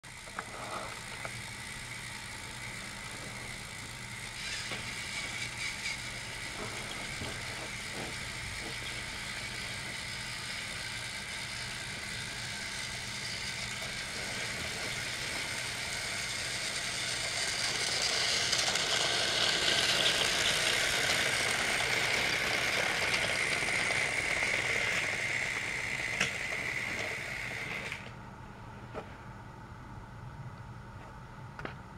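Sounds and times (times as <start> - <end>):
toy train motors whining: 0.1 - 28.1.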